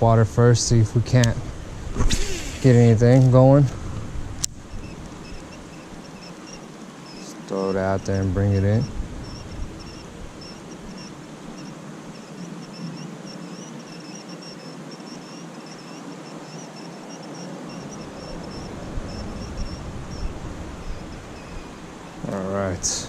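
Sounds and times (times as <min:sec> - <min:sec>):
outdoor hiss: 0:00.1 - 0:23.0
insects chirping: 0:04.4 - 0:23.0.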